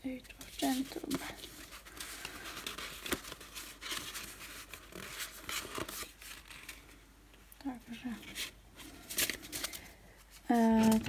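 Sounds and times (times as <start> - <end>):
paper rustling and sliding: 0.4 - 7.0, 8.3 - 11.0.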